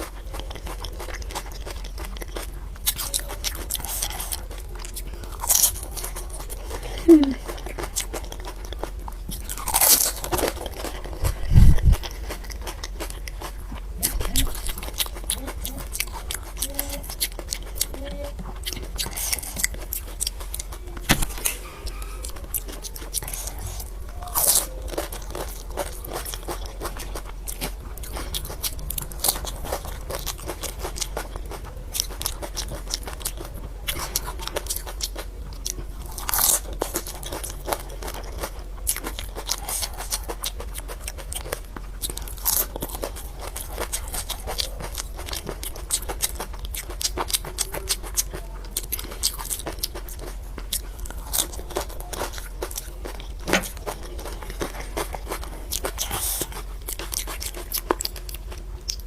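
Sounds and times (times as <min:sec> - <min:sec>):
crunching crisp shells: 0:00.0 - 0:59.0.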